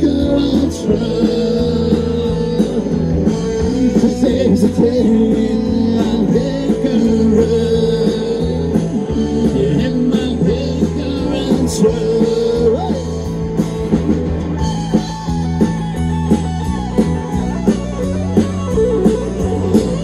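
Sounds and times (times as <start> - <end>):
live rock band playing: 0.0 - 20.0
steady drum beat: 0.0 - 20.0.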